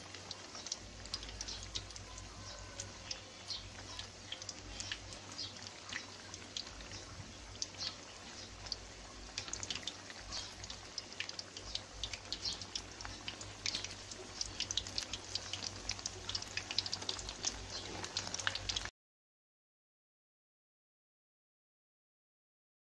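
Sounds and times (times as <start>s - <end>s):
oil sizzling while deep-frying: 0.0s - 18.9s.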